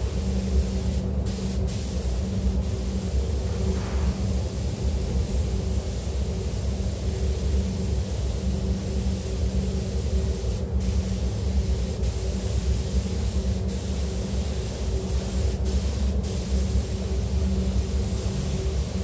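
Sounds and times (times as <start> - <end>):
spray gun hissing: 0.0 - 6.6, 7.4 - 19.0
steady low hum: 0.0 - 19.0.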